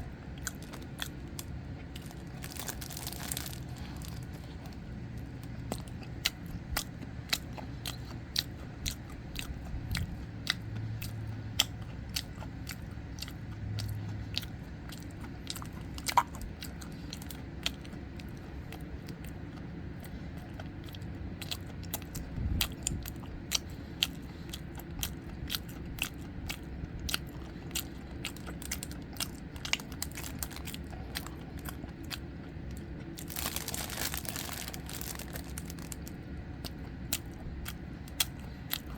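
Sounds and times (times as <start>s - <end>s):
person chewing and biting bread: 0.0s - 38.9s.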